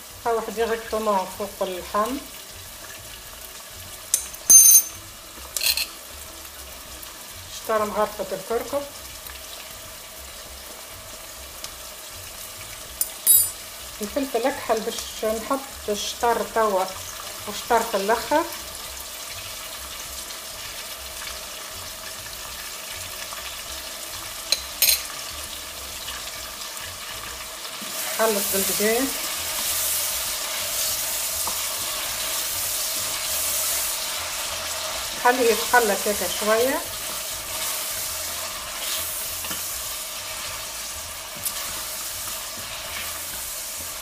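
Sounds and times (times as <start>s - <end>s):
meat and onions sizzling: 0.0s - 44.0s.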